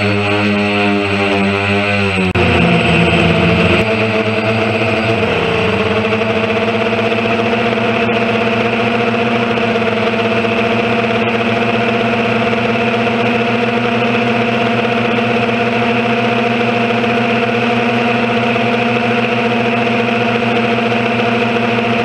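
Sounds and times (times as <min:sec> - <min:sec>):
drone motors and propellers: 0:00.0 - 0:22.0.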